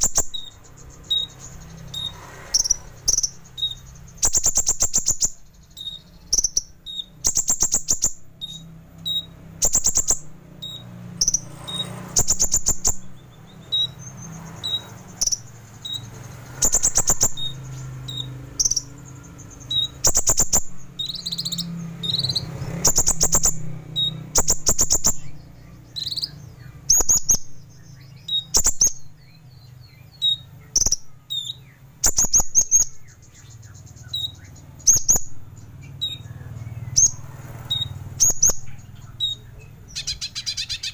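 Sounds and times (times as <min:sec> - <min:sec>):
bird buzzy trills: 0:00.0 - 0:40.9.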